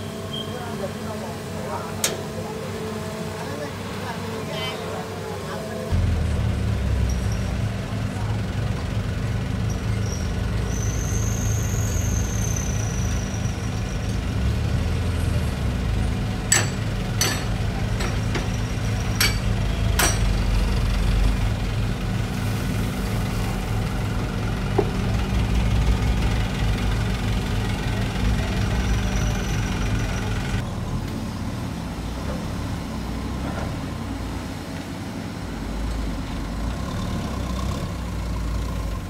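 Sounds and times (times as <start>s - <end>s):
diesel truck engines running: 0.0s - 39.0s.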